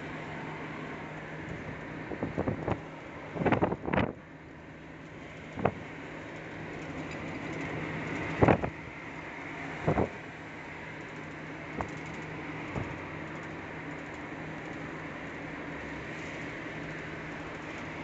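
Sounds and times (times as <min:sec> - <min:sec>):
low engine hum: 0:00.0 - 0:18.0
road and wind noise: 0:00.0 - 0:18.0.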